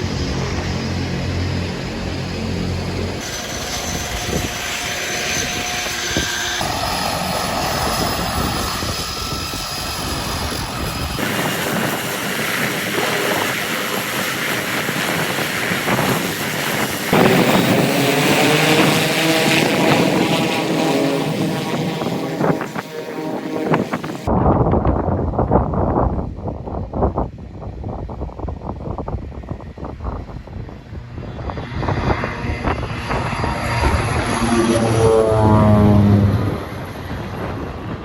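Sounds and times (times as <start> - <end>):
propeller aircraft engine running: 0.0 - 38.0.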